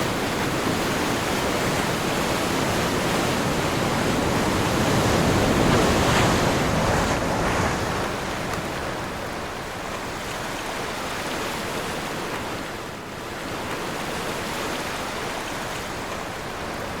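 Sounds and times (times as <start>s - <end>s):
ocean surf: 0.0s - 17.0s.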